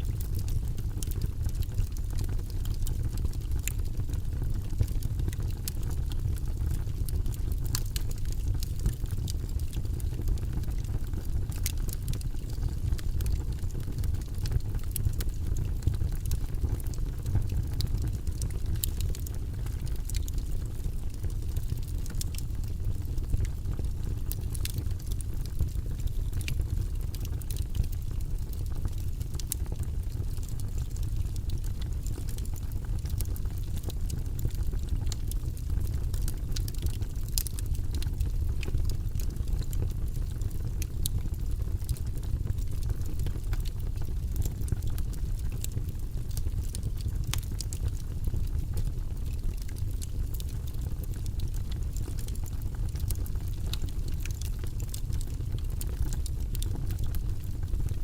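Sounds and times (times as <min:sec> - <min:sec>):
fire crackling and popping: 0:00.0 - 0:58.0
low rumble of flame: 0:00.0 - 0:58.0.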